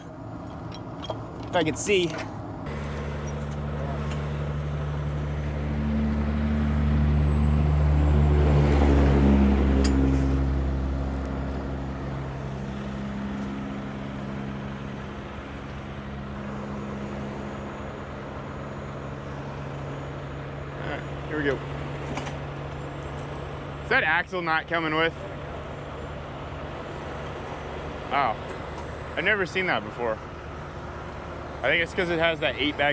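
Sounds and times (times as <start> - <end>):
diesel truck engine running: 0.0 - 32.9.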